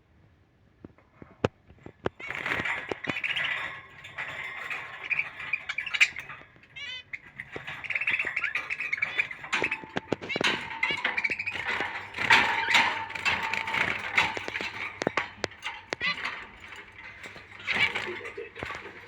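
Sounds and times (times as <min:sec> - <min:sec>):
budgerigars warbling and chattering: 0:02.0 - 0:19.0.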